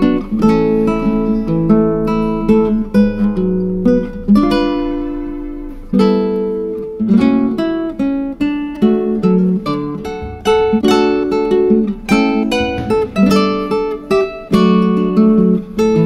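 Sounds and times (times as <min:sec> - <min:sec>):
acoustic guitar plucked chords: 0:00.0 - 0:16.0.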